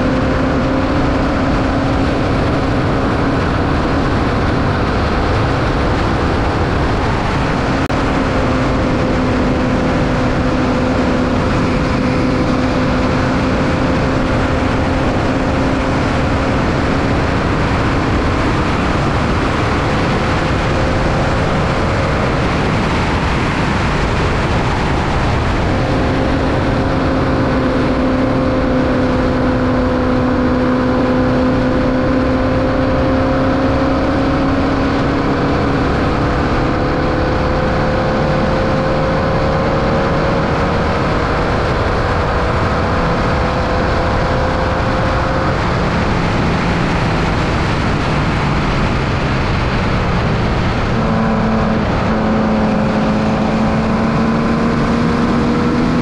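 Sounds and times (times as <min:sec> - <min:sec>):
constant rush of noise: 0:00.0 - 0:56.0
race car engine running hard: 0:00.0 - 0:56.0.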